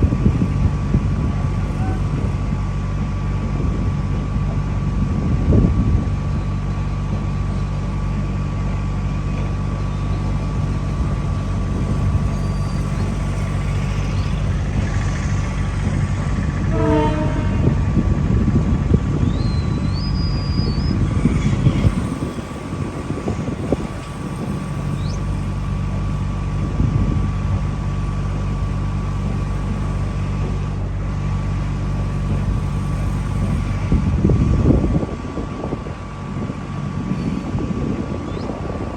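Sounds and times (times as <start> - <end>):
train running on rails: 0.0 - 38.9.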